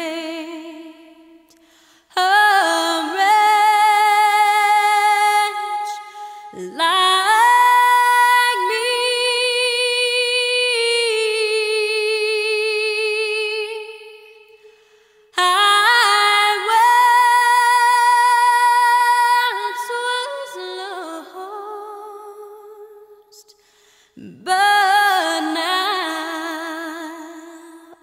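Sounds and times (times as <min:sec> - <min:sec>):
woman singing unaccompanied: 0:00.0 - 0:01.4, 0:02.1 - 0:14.4, 0:15.4 - 0:23.4, 0:24.2 - 0:28.0.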